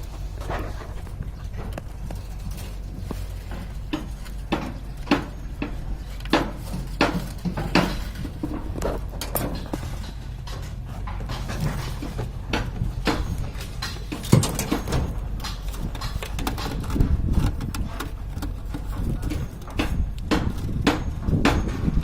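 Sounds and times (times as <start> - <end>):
steady low hum: 0.0 - 22.0
sharp knocks and clicks: 1.5 - 22.0.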